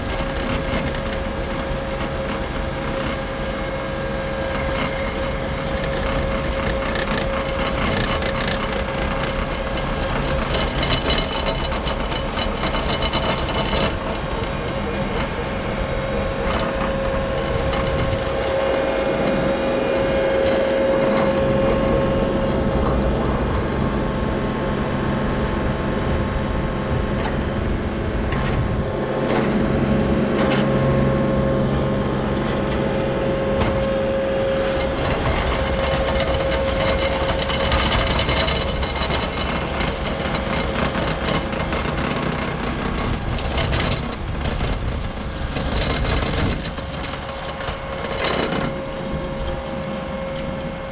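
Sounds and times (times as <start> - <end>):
rake drum grinding through soil: 0.0 - 25.5, 27.0 - 50.9
diesel engine under load: 0.0 - 50.9
steady whine: 0.0 - 50.9.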